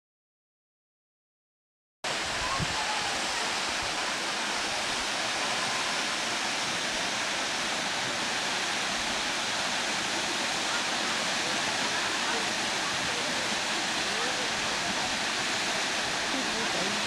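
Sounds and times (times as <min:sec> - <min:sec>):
waterfall rushing: 0:02.1 - 0:17.0.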